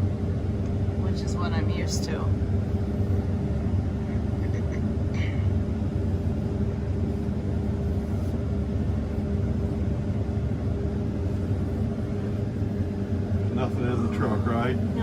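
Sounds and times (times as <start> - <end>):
combine harvester low drone: 0.0 - 15.0.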